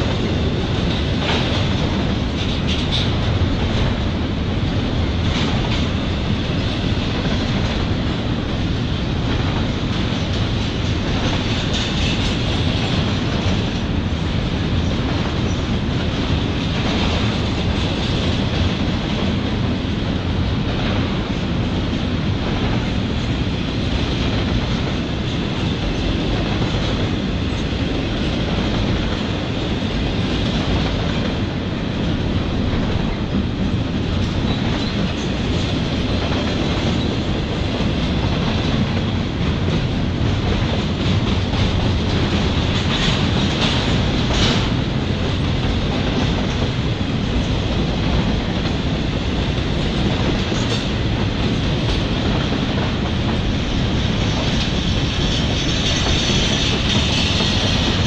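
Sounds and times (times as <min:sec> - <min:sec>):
wheels clacking over rails: 0:00.0 - 0:20.0, 0:20.6 - 0:58.0
freight train rumble: 0:00.0 - 0:58.0.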